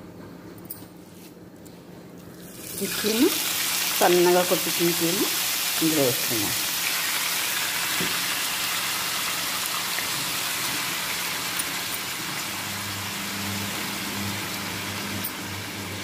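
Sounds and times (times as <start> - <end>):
meat sizzling in hot oil: 2.5 - 16.0.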